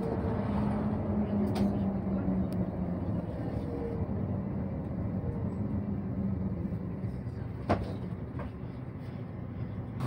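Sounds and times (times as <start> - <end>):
diesel bus engine: 0.0 - 10.0
road noise: 0.0 - 10.0.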